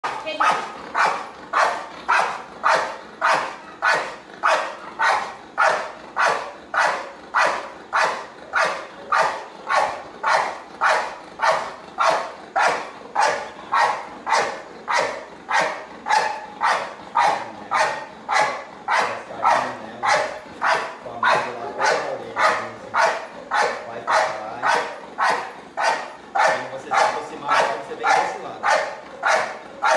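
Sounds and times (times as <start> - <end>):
dog barking: 0.0 - 29.9.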